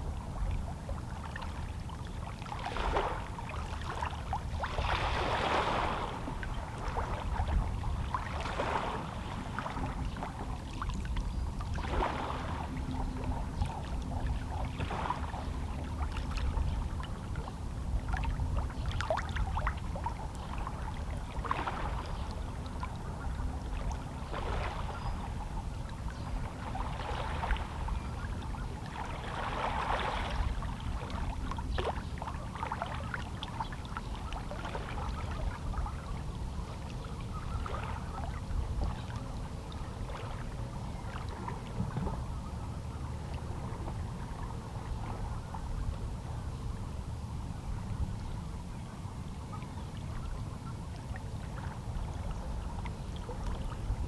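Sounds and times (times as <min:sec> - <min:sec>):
low rumble of sea: 0:00.0 - 0:54.0.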